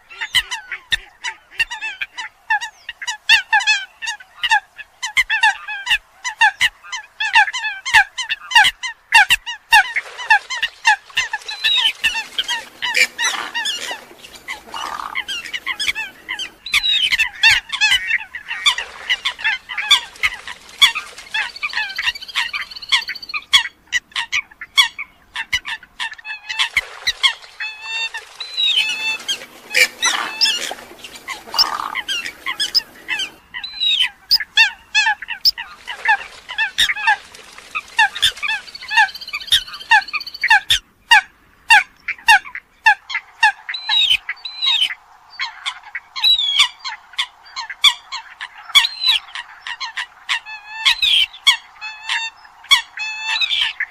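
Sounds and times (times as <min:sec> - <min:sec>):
coots honking and popping calls: 0:00.0 - 0:53.9.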